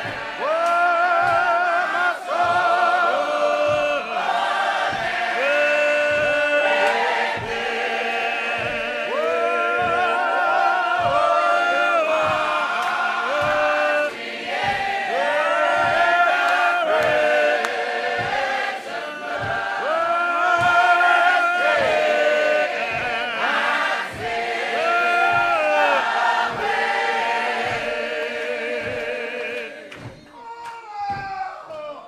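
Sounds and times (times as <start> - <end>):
choir singing a hymn: 0.0 - 30.3
low thump: 2.4 - 30.3.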